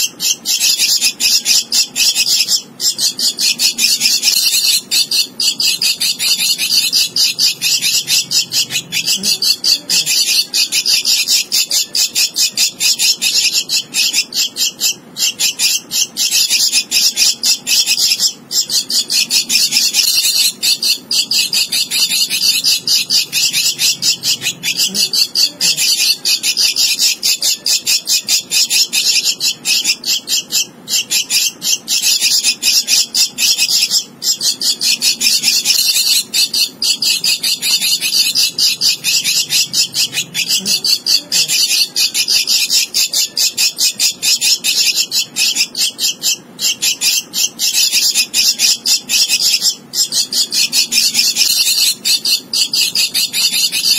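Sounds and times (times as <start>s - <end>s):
bird chick begging calls: 0.0s - 53.9s.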